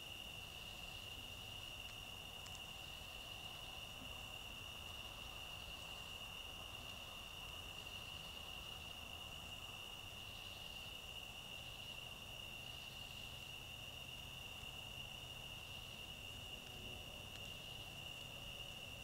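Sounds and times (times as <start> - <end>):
night insects droning: 0.0 - 19.0.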